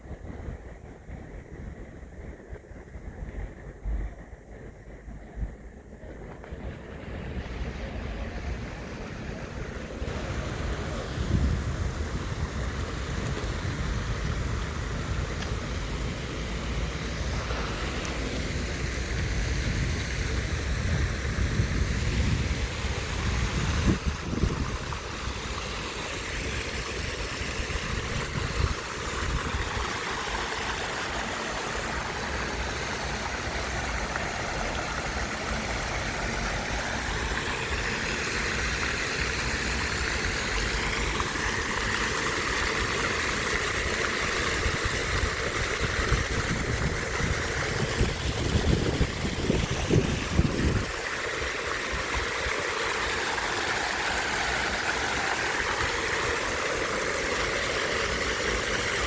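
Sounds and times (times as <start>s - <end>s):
outdoor background hiss: 0.0s - 59.0s
wind buffeting microphone: 0.0s - 59.0s.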